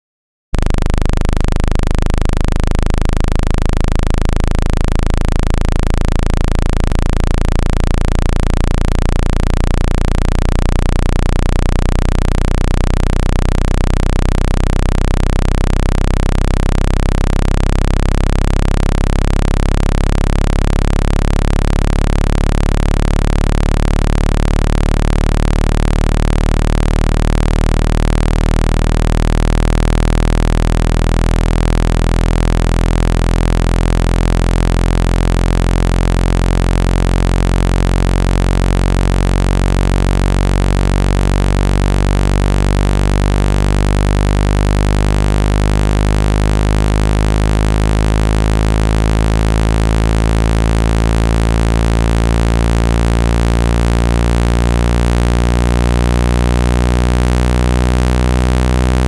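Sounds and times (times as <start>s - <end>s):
low buzzy synthesized tone: 0.6s - 59.0s.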